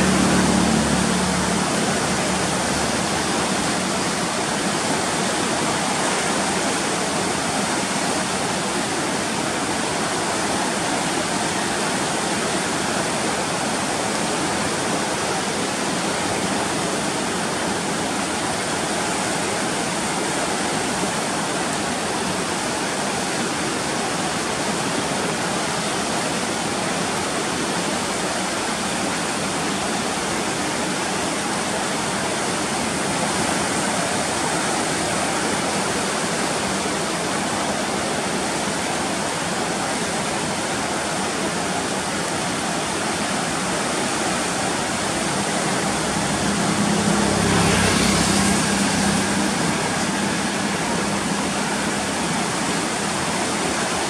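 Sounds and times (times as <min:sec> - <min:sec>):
turbulent floodwater rushing: 0:00.0 - 0:54.0.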